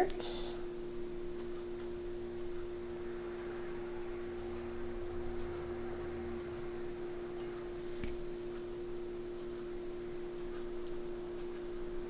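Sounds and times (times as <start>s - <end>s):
low tone: 0.0s - 10.4s
steady hum: 0.0s - 12.0s.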